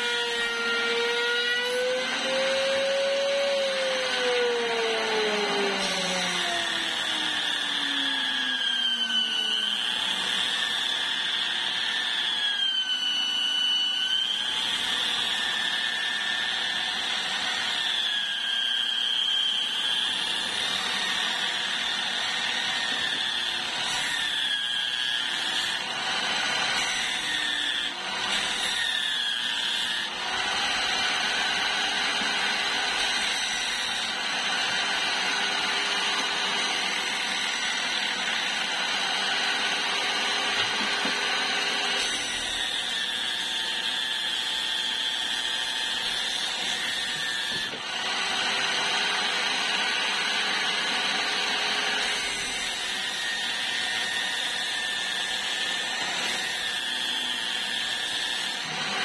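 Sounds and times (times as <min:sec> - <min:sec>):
sanding disc whining against wood: 0:00.0 - 0:59.0.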